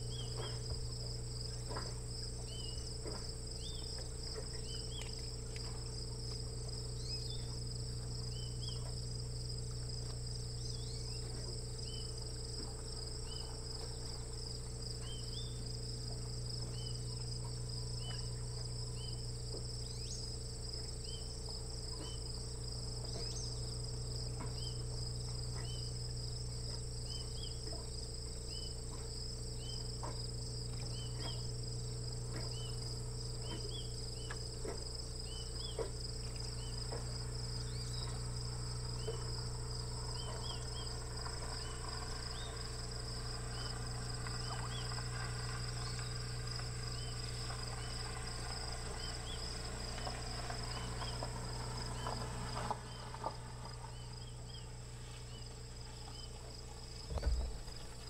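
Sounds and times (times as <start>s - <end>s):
insects trilling: 0.0s - 58.0s
low steady hum: 0.0s - 58.0s.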